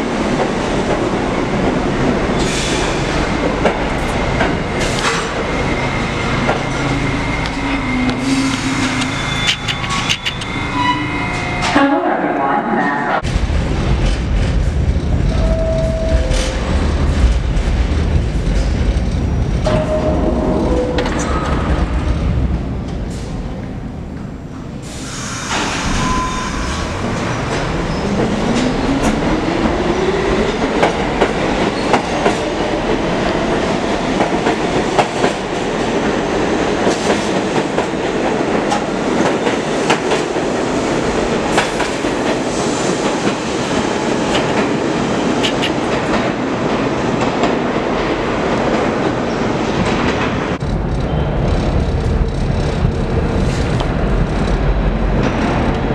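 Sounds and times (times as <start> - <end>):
rail noise: 0.0 - 55.9.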